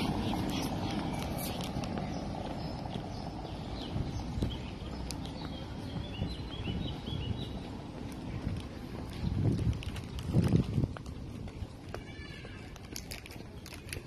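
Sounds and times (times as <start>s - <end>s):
traffic rumble: 0.0s - 14.0s
wind: 0.0s - 14.0s.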